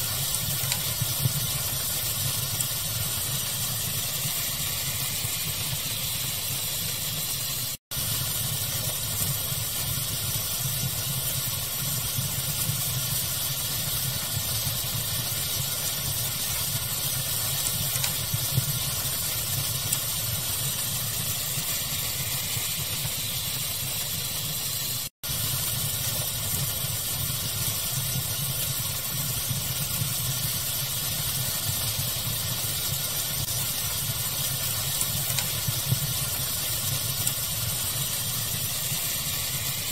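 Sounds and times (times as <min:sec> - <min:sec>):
fire crackling: 0:00.0 - 0:39.9
steady hiss: 0:00.0 - 0:39.9.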